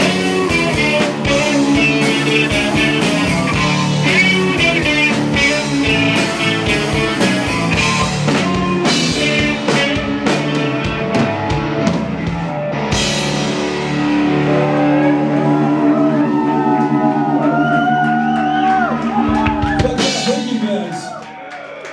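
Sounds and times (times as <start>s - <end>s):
rock band playing live: 0.0s - 21.3s.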